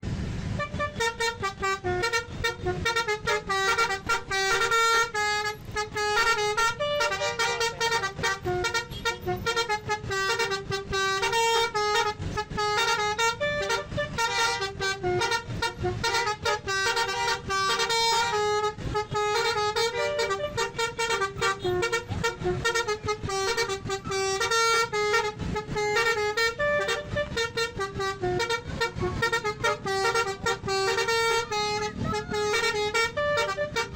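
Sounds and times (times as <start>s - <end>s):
multi-tone bus horn tune: 0.0s - 33.9s.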